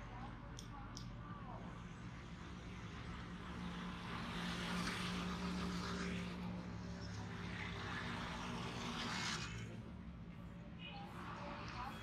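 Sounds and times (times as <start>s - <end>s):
road noise: 1.4s - 12.0s
motorcycle engines passing: 2.2s - 12.0s.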